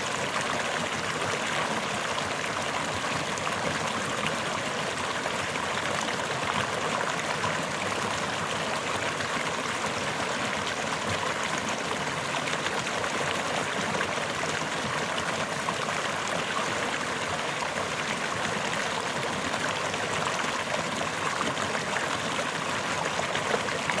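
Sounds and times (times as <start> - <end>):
brook babbling over stones: 0.0 - 24.0.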